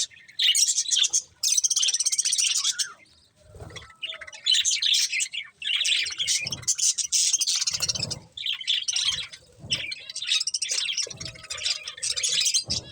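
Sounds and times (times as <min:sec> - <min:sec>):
budgerigars chirping: 0:00.0 - 0:12.9.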